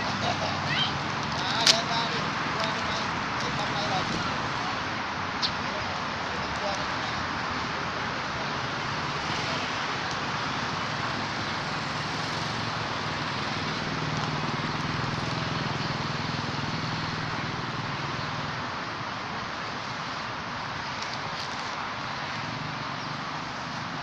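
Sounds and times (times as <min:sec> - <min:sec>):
road traffic noise: 0:00.0 - 0:24.0
vehicle engine hum: 0:00.0 - 0:24.0.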